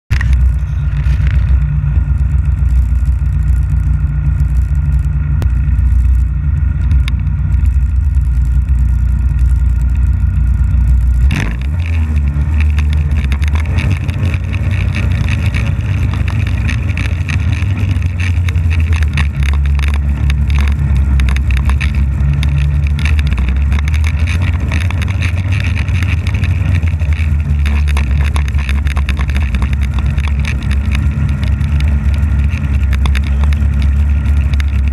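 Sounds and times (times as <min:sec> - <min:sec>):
snowmobile engine droning: 0:00.1 - 0:34.9.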